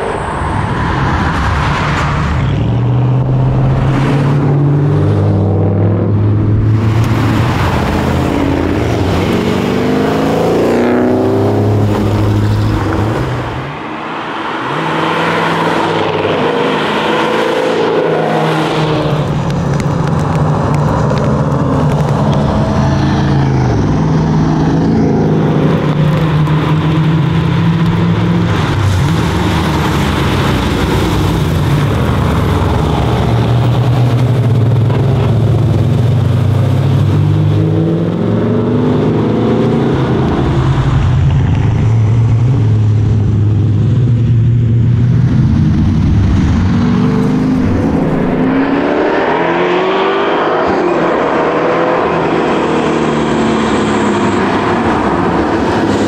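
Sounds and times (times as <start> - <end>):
car engines accelerating past: 0.0 - 56.0.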